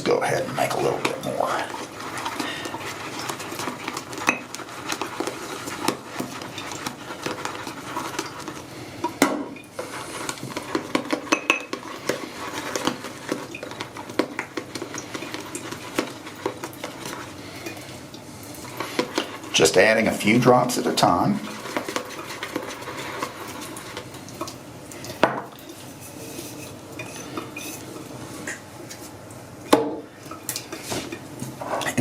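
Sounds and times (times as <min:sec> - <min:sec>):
shaving brush scraping a bowl: 0:00.0 - 0:24.5, 0:25.5 - 0:29.2.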